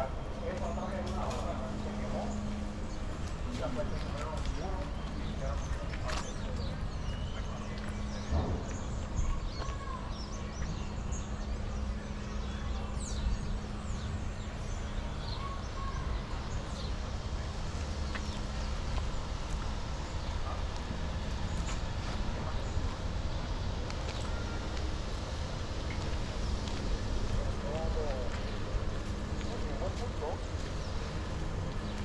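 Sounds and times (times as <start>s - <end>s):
birds chirping: 0.0s - 32.0s
low outdoor rumble: 0.0s - 32.0s
steady hum: 0.0s - 32.0s.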